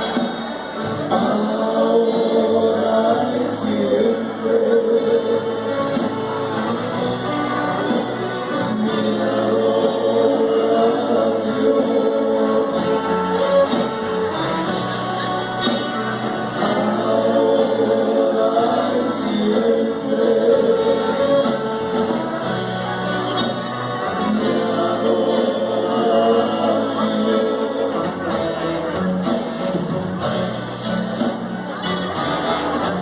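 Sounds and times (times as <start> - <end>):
live band playing: 0.0 - 33.0
person singing: 0.8 - 29.4.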